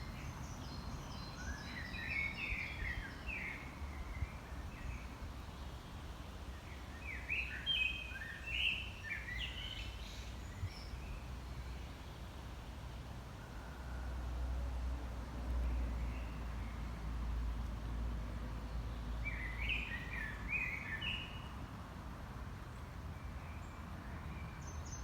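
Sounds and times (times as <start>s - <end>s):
songbird singing: 0.0s - 12.7s, 15.6s - 21.7s, 22.6s - 25.0s.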